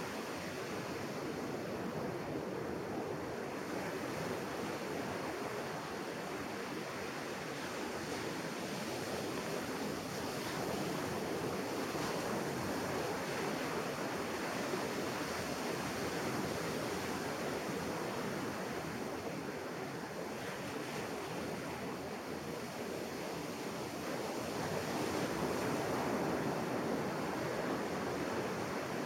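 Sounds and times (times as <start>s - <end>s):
ocean surf on sandy beach: 0.0s - 29.0s.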